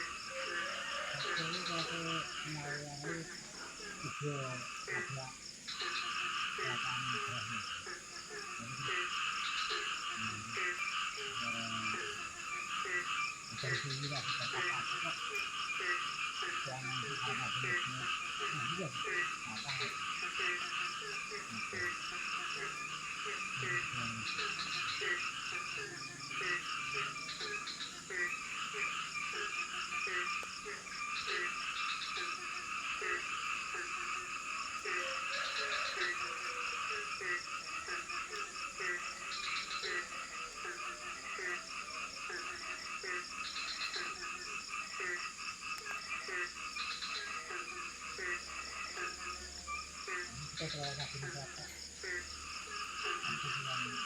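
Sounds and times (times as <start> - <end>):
frog chorus: 0.0 - 54.0
frog low croak: 0.0 - 54.0.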